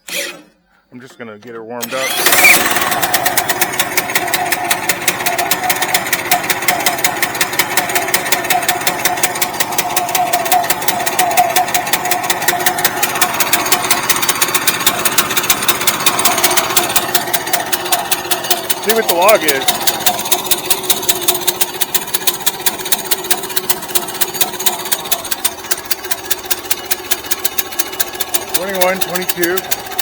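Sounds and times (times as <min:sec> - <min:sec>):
small gasoline engine running: 0:01.8 - 0:30.0.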